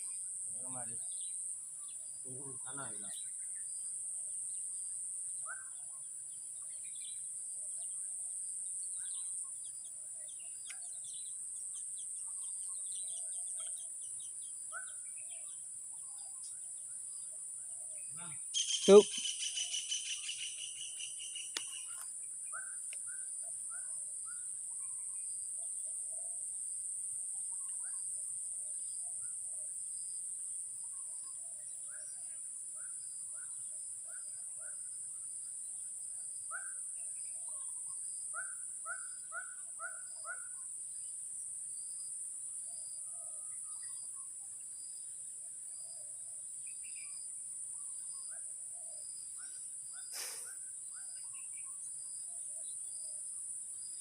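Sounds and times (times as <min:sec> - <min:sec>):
insect chirping calls: 0:00.0 - 0:54.0
insect drone: 0:00.0 - 0:54.0.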